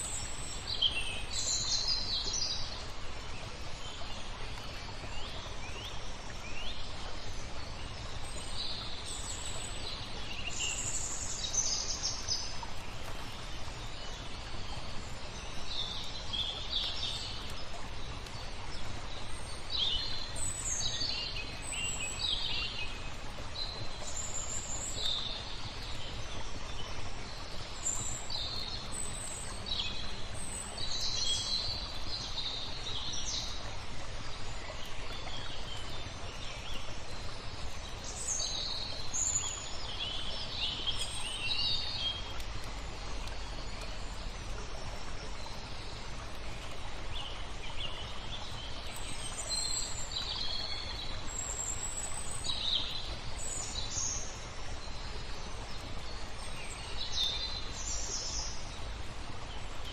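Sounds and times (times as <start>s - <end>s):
low rush of water: 0.0s - 59.9s
songbirds chirping: 0.0s - 59.9s.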